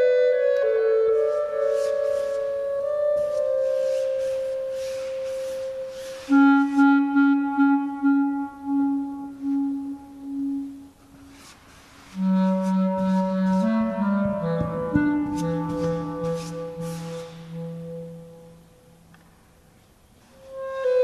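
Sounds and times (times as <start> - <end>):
clarinet solo: 0.0 - 19.0, 20.3 - 21.0.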